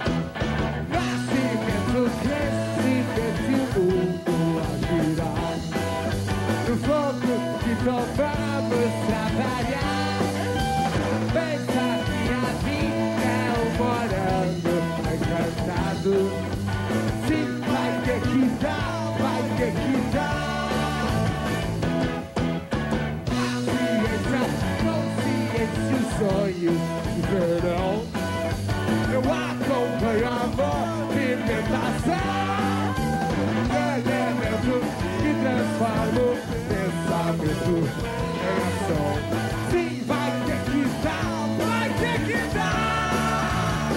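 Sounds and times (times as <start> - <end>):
rock band playing: 0.0 - 43.9
man singing: 0.9 - 5.8, 6.5 - 21.5, 23.3 - 28.2, 28.9 - 43.9.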